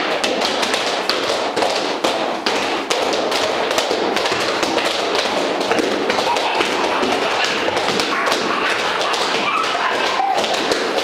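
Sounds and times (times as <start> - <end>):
children's feet tapping on wooden floor: 0.0 - 11.0
continuous background din: 0.0 - 11.0.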